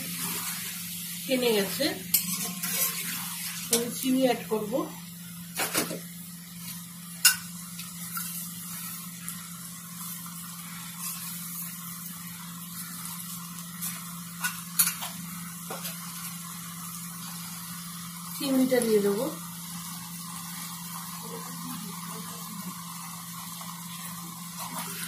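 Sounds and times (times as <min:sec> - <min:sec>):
faint sizzling: 0:00.0 - 0:25.0.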